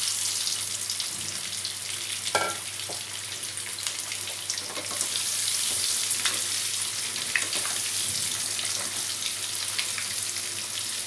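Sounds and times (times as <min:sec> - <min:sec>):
potatoes sizzling in hot oil: 0:00.0 - 0:11.0.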